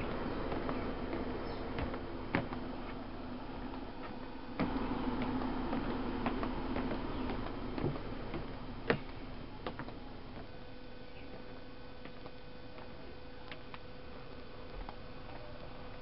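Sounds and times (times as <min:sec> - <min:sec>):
faint hum: 0:00.0 - 0:16.0
footsteps on steps and path: 0:00.0 - 0:16.0.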